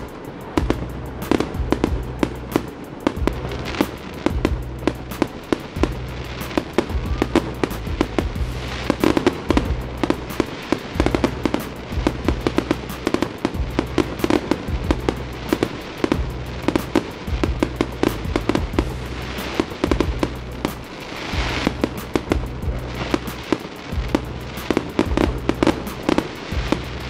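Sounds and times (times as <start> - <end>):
fireworks popping and crackling: 0.0 - 27.0
low steady rumble: 0.0 - 27.0.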